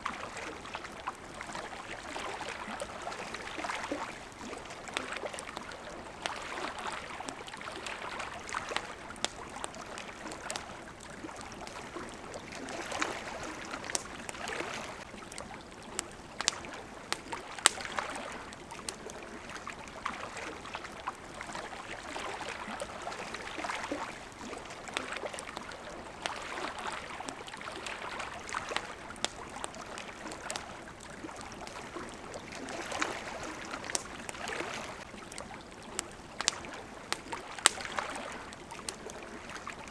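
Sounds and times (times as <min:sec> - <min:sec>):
campfire crackling: 0:00.0 - 0:39.9
water lapping: 0:00.0 - 0:39.9.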